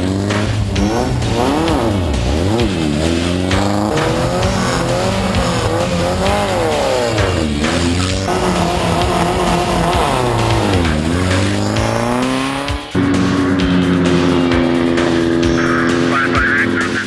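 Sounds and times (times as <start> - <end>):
race engine revving hard: 0.0 - 17.0.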